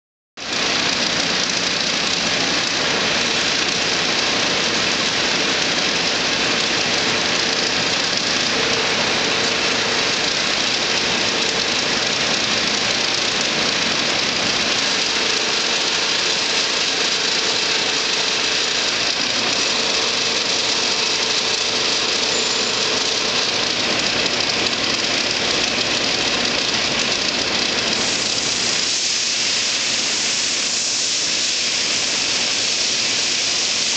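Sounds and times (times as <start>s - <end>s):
lathe running: 0.4s - 33.9s.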